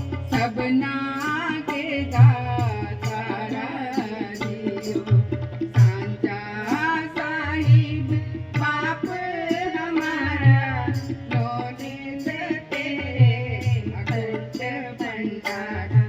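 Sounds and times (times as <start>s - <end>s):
person singing devotional melody: 0.0s - 16.0s
tabla drum strokes: 0.0s - 16.0s.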